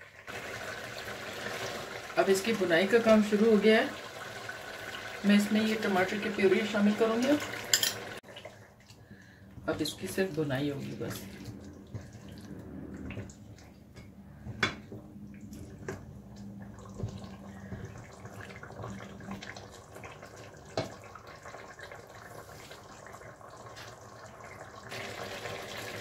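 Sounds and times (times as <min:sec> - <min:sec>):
curry sizzling and bubbling in a pot: 0:00.0 - 0:14.1, 0:14.7 - 0:26.0.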